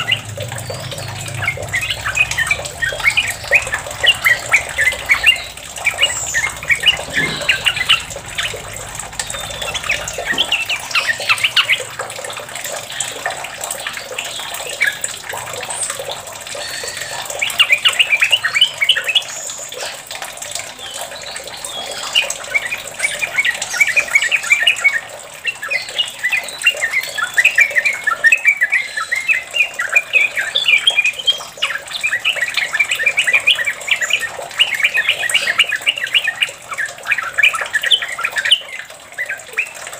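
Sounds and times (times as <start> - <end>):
bird chattering song: 0.0 - 12.0, 13.9 - 20.0, 20.6 - 39.9.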